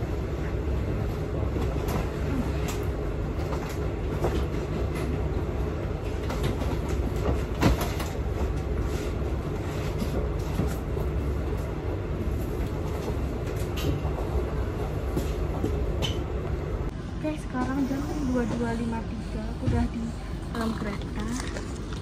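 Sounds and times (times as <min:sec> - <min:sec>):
passenger train rumbling: 0:00.0 - 0:21.4.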